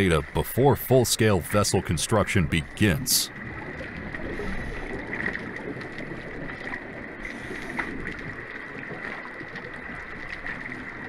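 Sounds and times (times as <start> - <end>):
noisy water ambience: 0.0 - 11.0.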